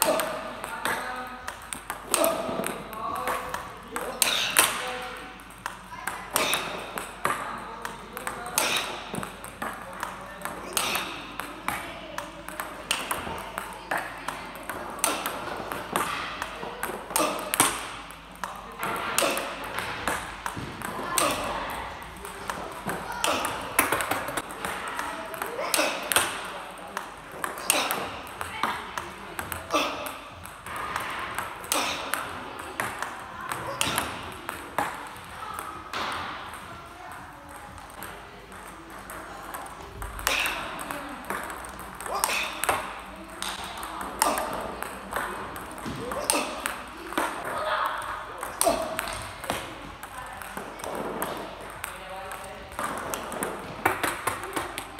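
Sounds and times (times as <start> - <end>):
table tennis balls clicking: 0.0 - 54.9.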